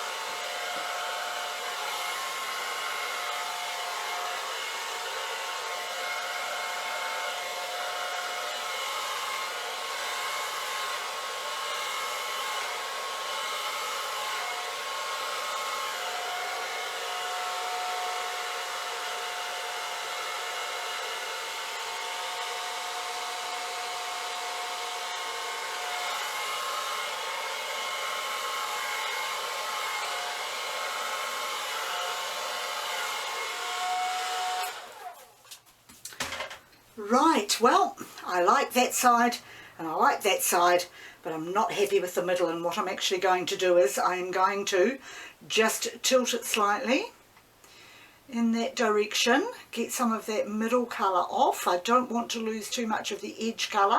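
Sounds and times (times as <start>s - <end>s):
hair dryer blowing: 0.0s - 46.8s.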